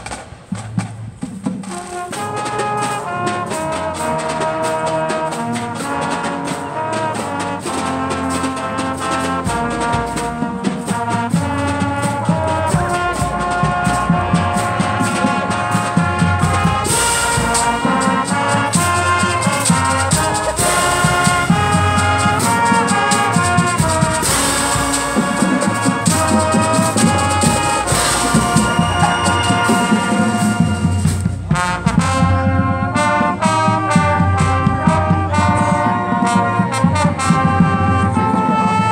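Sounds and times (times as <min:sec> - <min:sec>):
marching band playing: 0:00.0 - 0:38.9.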